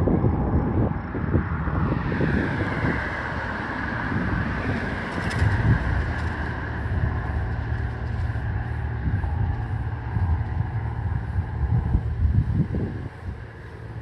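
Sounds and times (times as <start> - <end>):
aircraft engine whine: 0.0 - 14.0
wind rumble on microphone: 0.0 - 14.0.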